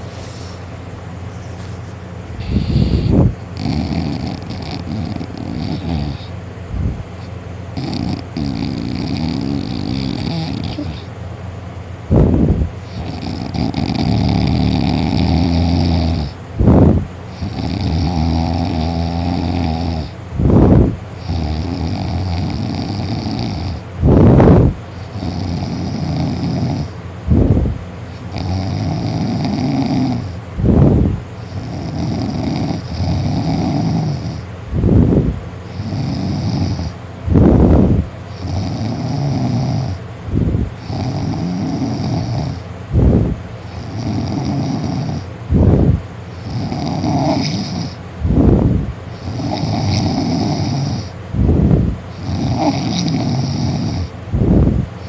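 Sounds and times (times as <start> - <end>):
man snoring loudly: 2.4 - 6.3, 7.8 - 11.1, 12.9 - 27.0, 28.2 - 40.0, 40.8 - 45.7, 46.4 - 48.6, 49.2 - 51.2, 52.1 - 54.2.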